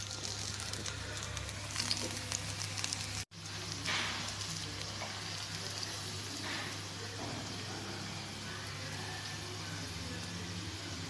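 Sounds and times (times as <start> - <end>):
battered fruit sizzling in oil: 0.0 - 11.0.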